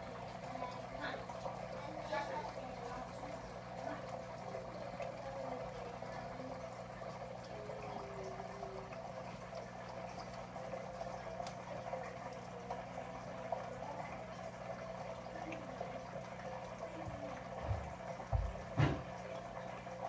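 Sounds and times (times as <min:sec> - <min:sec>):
aquarium water bubbling: 0:00.0 - 0:20.0
pump humming: 0:00.0 - 0:20.0.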